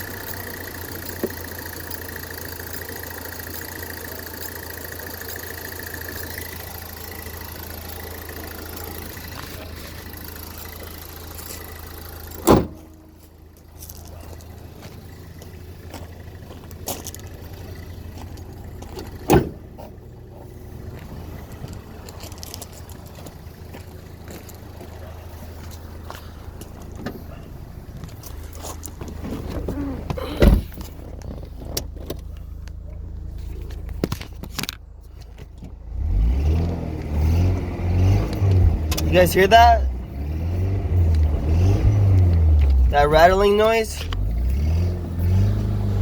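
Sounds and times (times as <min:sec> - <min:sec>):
engine clicks: 0:00.0 - 0:35.9, 0:36.6 - 0:40.0, 0:41.0 - 0:46.0
car engine running: 0:00.0 - 0:46.0.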